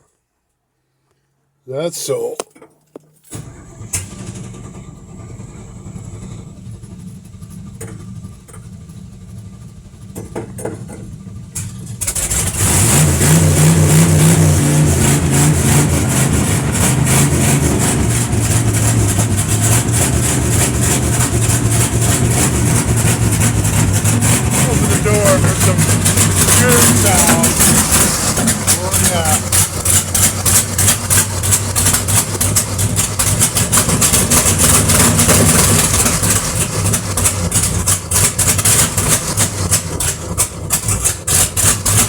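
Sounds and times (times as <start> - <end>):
engine starter cranking: 3.0 - 6.0, 11.3 - 42.0
truck engine revving and idling: 3.4 - 42.0.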